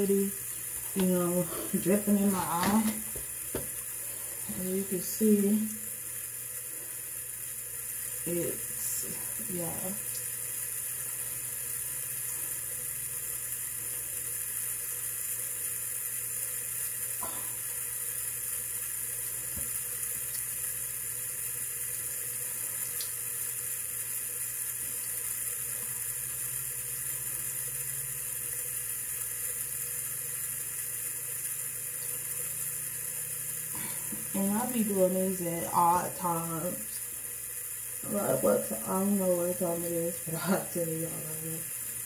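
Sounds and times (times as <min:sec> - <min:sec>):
water running from a tap: 0:00.0 - 0:42.0.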